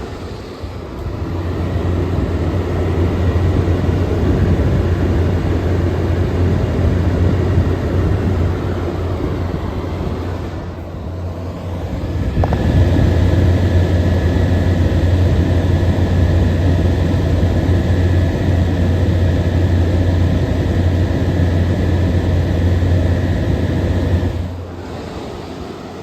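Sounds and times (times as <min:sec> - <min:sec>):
air conditioner hum: 0:00.0 - 0:26.0
fan whirring: 0:00.0 - 0:26.0
high whine: 0:00.0 - 0:26.0.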